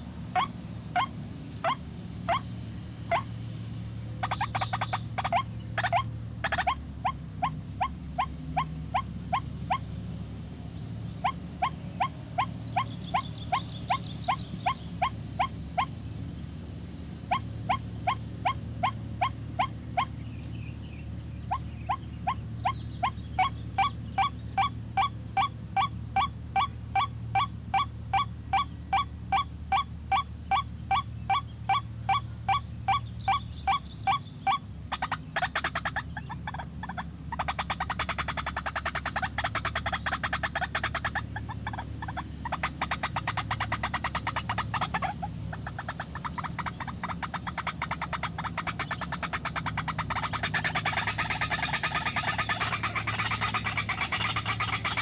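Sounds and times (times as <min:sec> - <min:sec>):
bird calling sharp notes: 0:00.0 - 0:03.5, 0:04.1 - 0:09.9, 0:11.0 - 0:16.0, 0:17.2 - 0:55.0.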